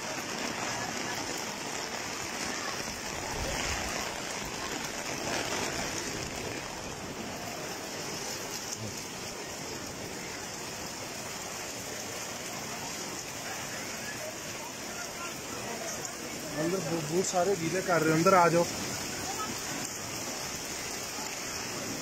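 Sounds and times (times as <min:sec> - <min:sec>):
rain on wet pavement: 0:00.0 - 0:22.0.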